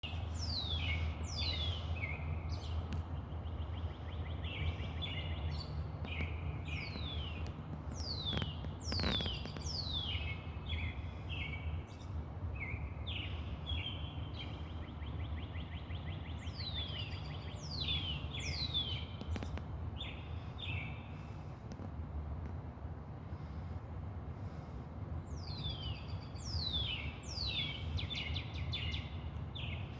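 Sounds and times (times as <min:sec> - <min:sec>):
songbirds singing: 0:00.0 - 0:22.6, 0:23.2 - 0:29.9
steady low rumble: 0:00.0 - 0:29.9.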